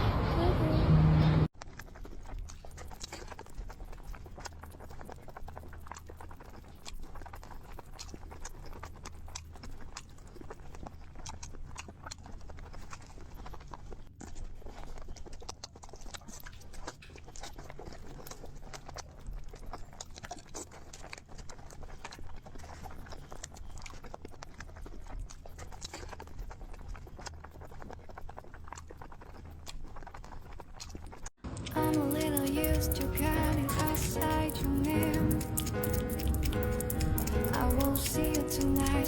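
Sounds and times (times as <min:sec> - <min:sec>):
small animal chewing: 0:01.5 - 0:39.0.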